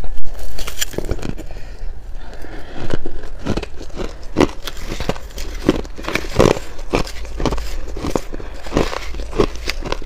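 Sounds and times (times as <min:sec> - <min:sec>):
ice being chewed: 0:00.3 - 0:10.0.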